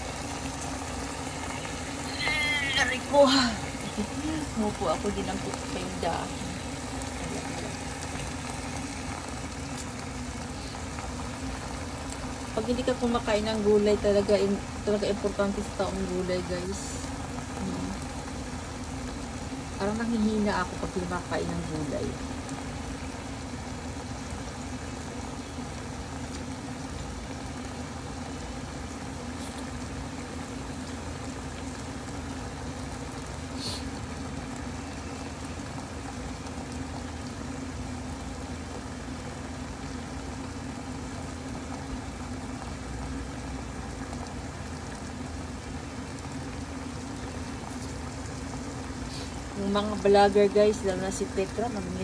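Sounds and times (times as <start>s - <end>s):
pot simmering: 0.0s - 52.0s
steady low hum: 0.0s - 52.0s.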